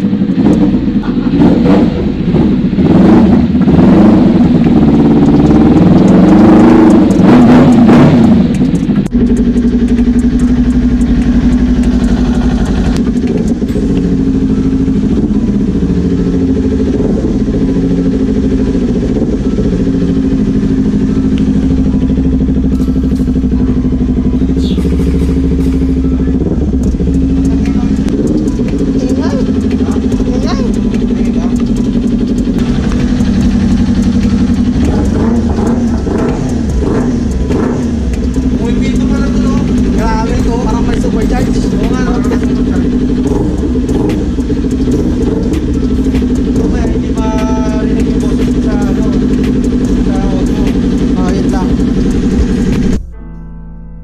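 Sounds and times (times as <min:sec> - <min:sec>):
motorcycle engine revving: 0:00.0 - 0:53.1.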